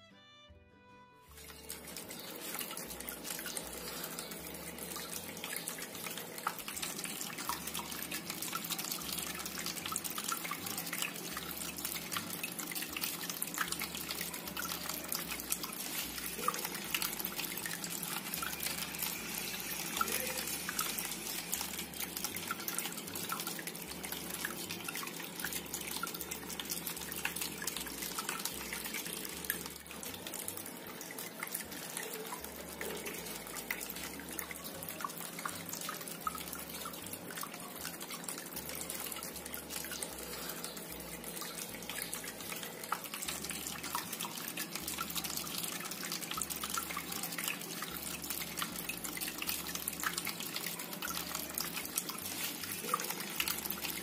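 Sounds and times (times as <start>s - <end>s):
fountain water trickling and splashing: 1.3s - 54.0s.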